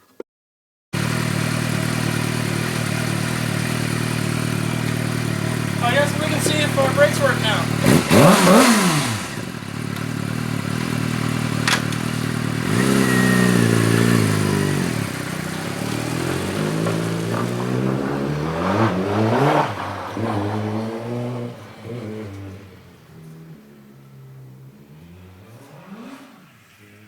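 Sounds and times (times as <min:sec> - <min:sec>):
motorcycle engine revving: 0:01.0 - 0:27.0.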